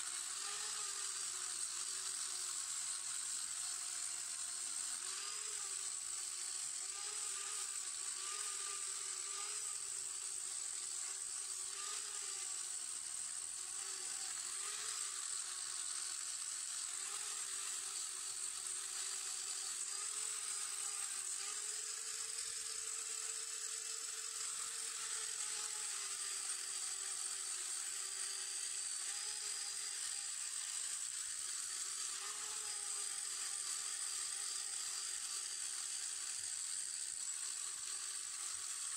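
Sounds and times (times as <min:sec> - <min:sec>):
electric grinder motor whine: 0:00.0 - 0:38.9.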